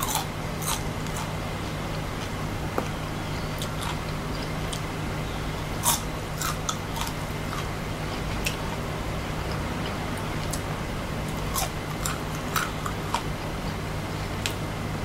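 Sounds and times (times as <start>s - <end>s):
crunchy chewing: 0.0s - 14.7s.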